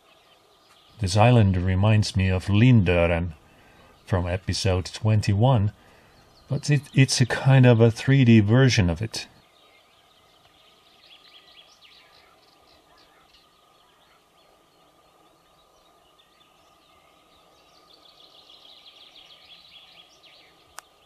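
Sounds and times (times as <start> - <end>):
birdsong trilling: 0.0 - 21.0
faint steady tone: 0.0 - 21.0.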